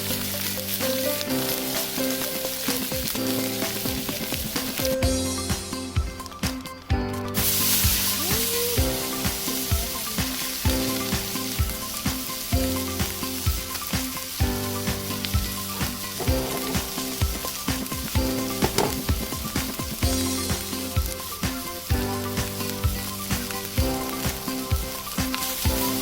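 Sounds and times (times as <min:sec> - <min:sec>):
background music with a beat: 0:00.0 - 0:26.0
steady sizzling hiss: 0:00.0 - 0:26.0.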